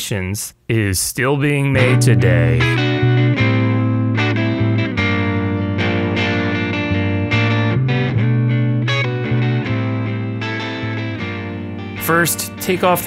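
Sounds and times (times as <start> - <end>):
distorted electric guitar chords: 1.8 - 13.0.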